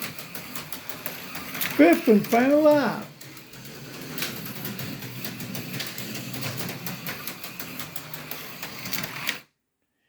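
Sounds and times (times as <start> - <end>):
slot car clattering on track: 0.0 - 9.4
slot car motor whirring: 0.0 - 9.5.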